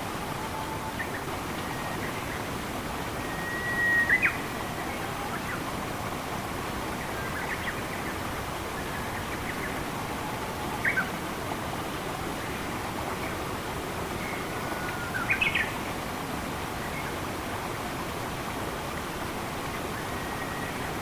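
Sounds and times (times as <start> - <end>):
flowing water: 0.0 - 21.0.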